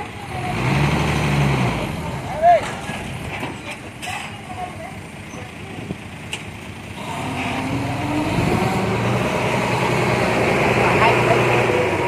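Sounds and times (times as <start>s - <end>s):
heavy diesel engine revving: 0.0s - 3.5s, 5.0s - 12.0s.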